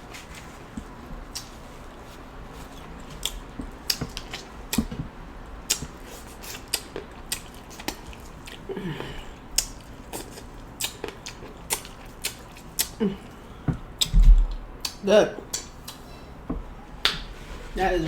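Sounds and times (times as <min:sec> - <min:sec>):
wet chewing and lip-smacking: 0:00.8 - 0:08.7, 0:09.3 - 0:16.1.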